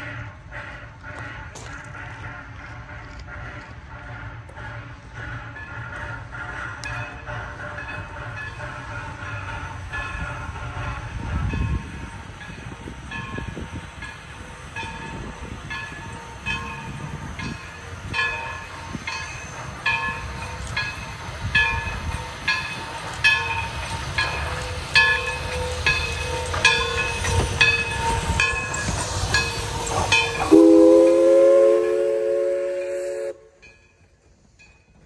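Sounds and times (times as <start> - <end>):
locomotive bell ringing: 5.4 - 35.0.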